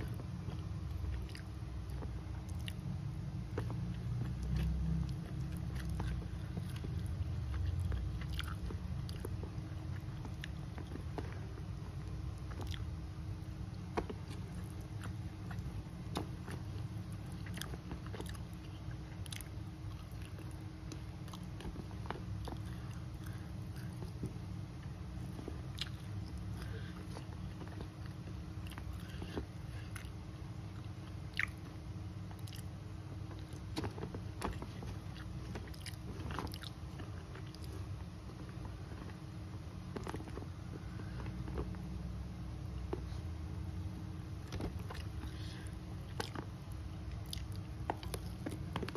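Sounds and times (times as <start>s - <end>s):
close chewing and biting: 0.0s - 48.9s
steady low hum: 0.0s - 48.9s.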